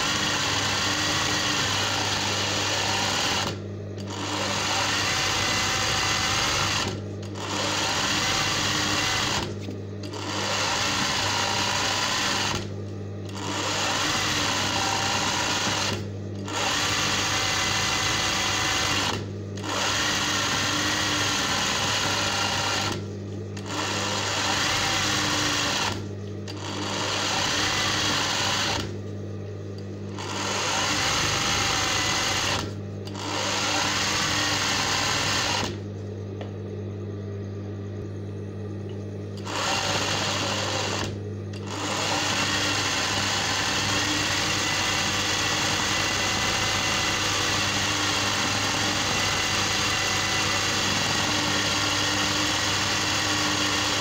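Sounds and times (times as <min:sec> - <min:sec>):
sewing machine stitching: 0:00.0 - 0:29.0, 0:30.1 - 0:35.8, 0:39.4 - 0:54.0.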